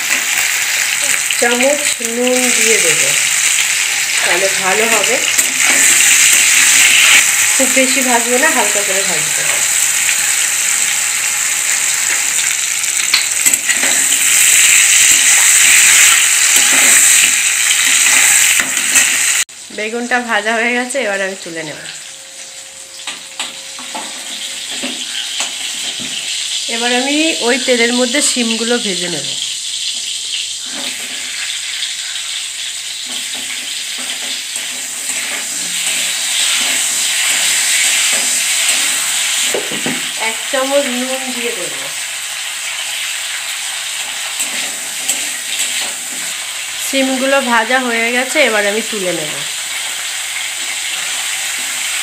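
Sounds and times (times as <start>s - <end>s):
food sizzling in hot oil: 0.0s - 52.0s.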